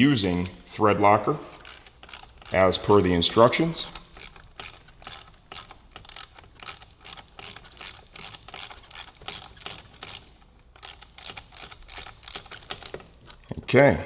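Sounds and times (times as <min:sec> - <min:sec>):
socket ratchet clicking: 0:01.5 - 0:13.5.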